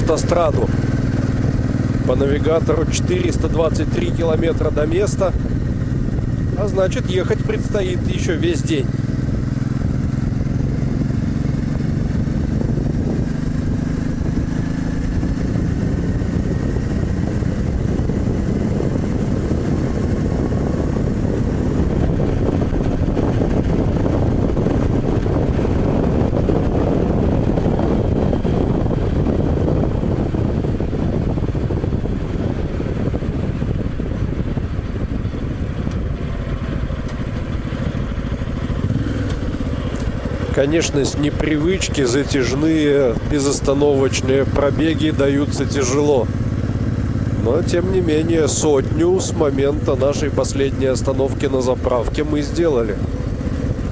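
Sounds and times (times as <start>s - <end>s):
motorcycle engine at speed: 0.0s - 53.9s
wind and road rush: 0.0s - 53.9s.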